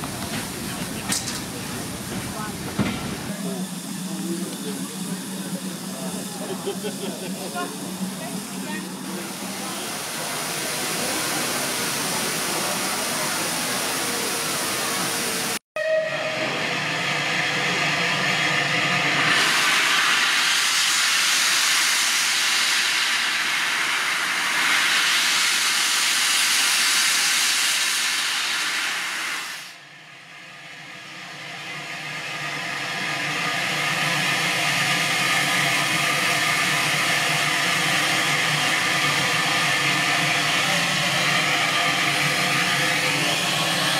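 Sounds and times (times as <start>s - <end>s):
steam locomotive hissing steam: 0.0s - 43.9s.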